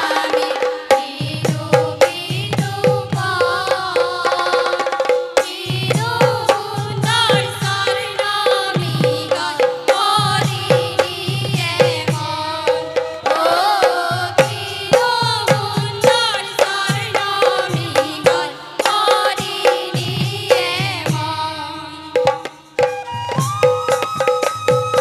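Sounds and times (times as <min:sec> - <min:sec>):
drum beat: 0:00.0 - 0:21.4, 0:22.2 - 0:25.0
women singing devotional song: 0:00.0 - 0:23.7.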